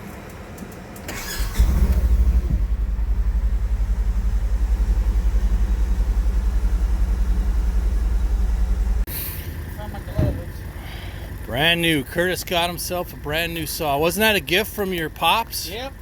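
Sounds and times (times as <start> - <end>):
engine starting and idling: 0.6 - 16.0.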